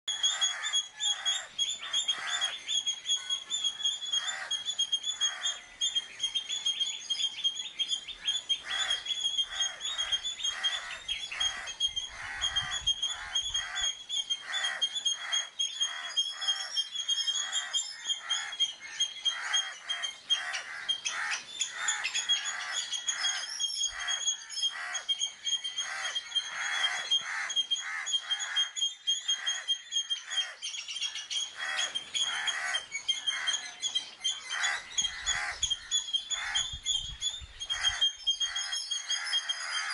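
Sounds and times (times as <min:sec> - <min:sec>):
squirrel alarm call chips: 0:00.1 - 0:06.4, 0:08.1 - 0:39.9.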